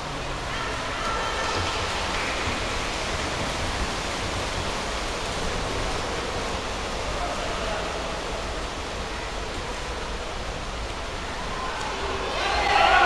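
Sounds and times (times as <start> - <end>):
reverberant pool hall noise: 0.0 - 13.0
splashing water: 0.0 - 13.0.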